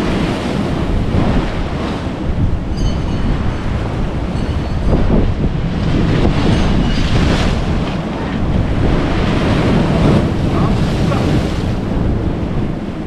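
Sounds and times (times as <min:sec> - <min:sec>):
sea waves breaking on rocks: 0:00.0 - 0:13.0
wind buffeting microphone: 0:00.0 - 0:13.0.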